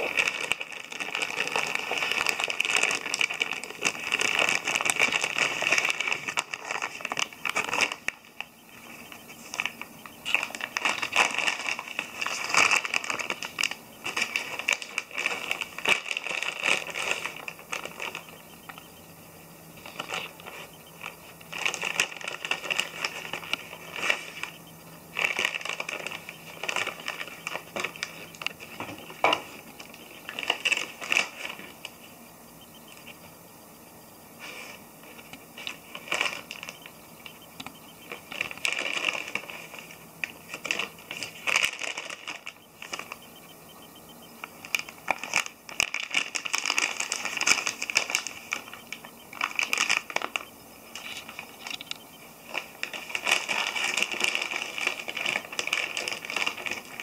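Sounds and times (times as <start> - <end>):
foil snack bag crinkling: 0.0 - 19.0, 19.7 - 32.2, 34.4 - 57.0.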